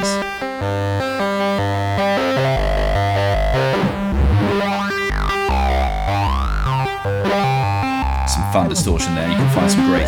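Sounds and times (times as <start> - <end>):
distorted synth line: 0.0 - 10.0.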